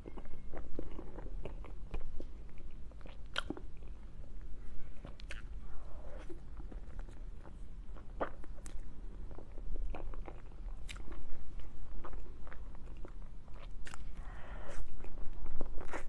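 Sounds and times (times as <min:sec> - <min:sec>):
person chewing cake: 0:00.0 - 0:16.0.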